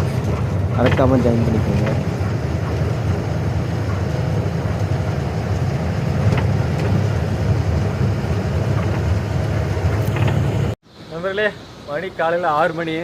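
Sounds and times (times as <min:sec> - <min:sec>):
road noise: 0:00.0 - 0:13.0
truck diesel engine rumble: 0:00.0 - 0:13.0.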